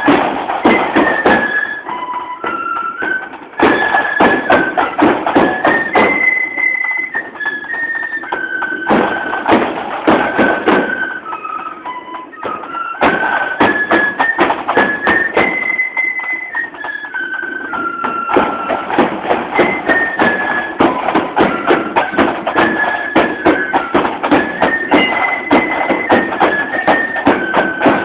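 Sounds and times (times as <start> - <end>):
marching flute band: 0.0 - 28.0.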